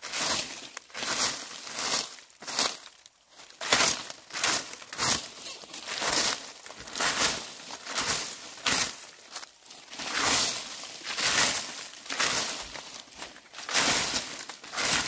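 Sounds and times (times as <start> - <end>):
dry leaves being swept: 0.0 - 2.8, 3.6 - 15.0.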